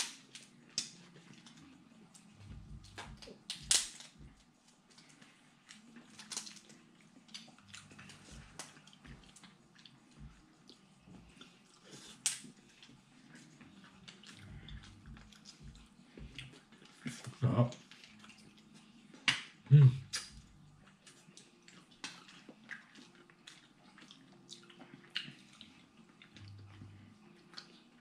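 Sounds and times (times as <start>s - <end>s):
chewing and cracking shells: 0.0s - 28.0s.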